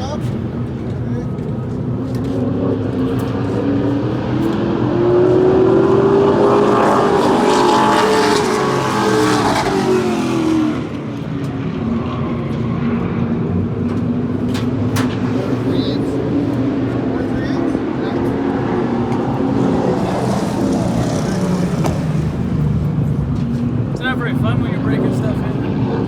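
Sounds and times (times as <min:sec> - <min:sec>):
race car engine running: 0:00.0 - 0:26.0.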